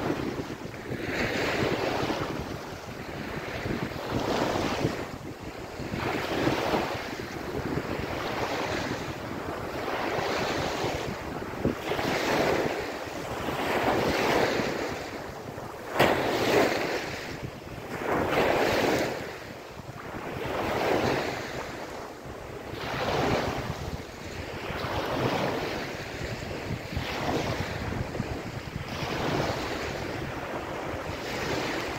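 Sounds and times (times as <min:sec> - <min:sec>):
small waves washing up beach: 0:00.0 - 0:31.9.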